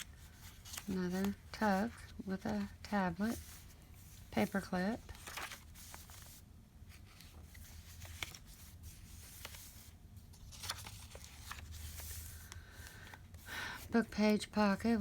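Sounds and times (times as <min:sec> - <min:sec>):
paper rustling: 0:00.0 - 0:13.5.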